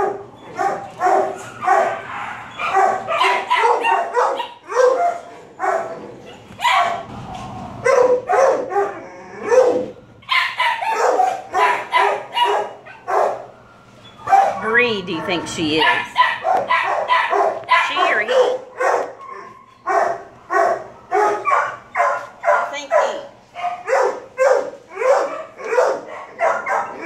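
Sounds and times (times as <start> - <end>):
dogs barking: 0.0 - 27.0.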